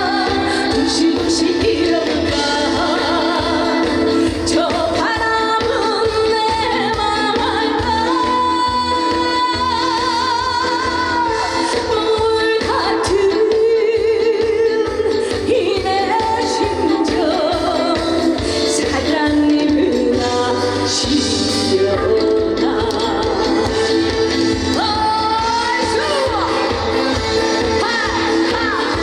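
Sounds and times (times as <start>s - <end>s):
backing music with steady beat: 0.0s - 29.0s
woman singing with vibrato: 0.0s - 29.0s.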